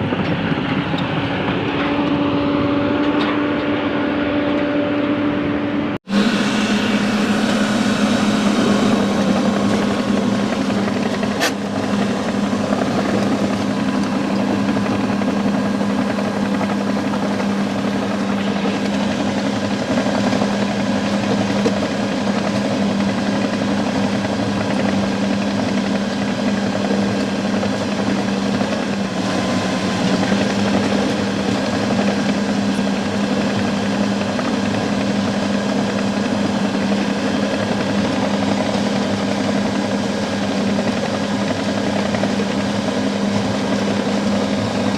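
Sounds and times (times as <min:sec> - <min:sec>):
diesel engine droning: 0:00.0 - 0:44.9.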